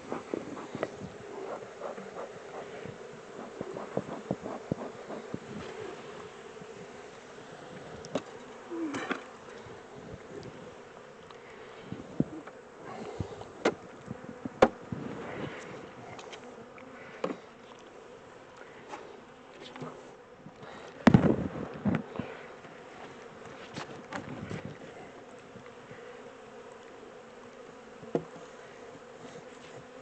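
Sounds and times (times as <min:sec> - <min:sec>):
bee swarm buzzing: 0:00.0 - 0:30.0.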